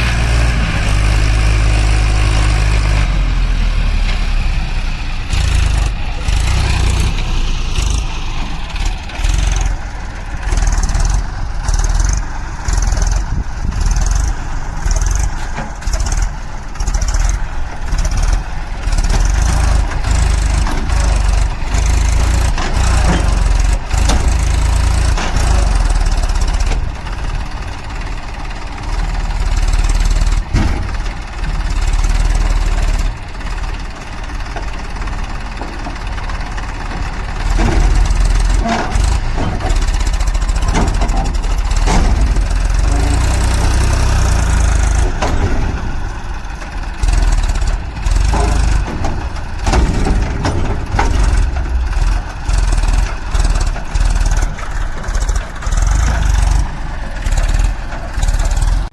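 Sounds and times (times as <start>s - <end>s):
tractor diesel engine straining: 0.0s - 58.9s.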